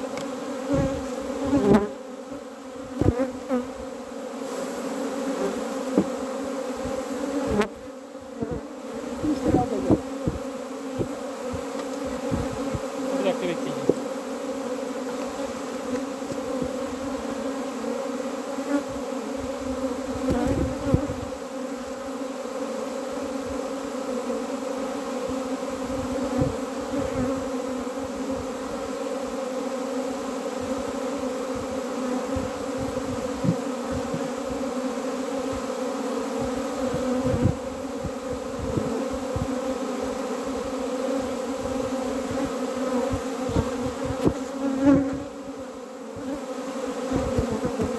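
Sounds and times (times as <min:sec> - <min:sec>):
honeybees buzzing: 0:00.0 - 0:47.9.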